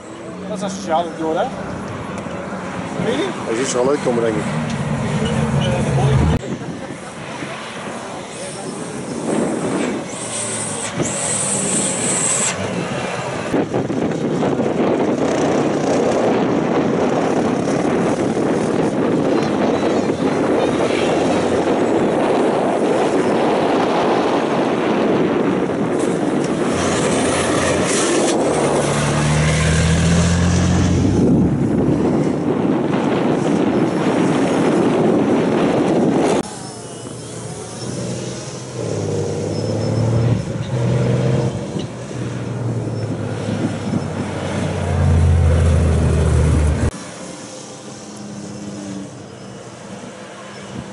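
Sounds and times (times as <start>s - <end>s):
race trucks driving past: 0.0s - 50.9s
loud rushing noise: 0.6s - 49.2s.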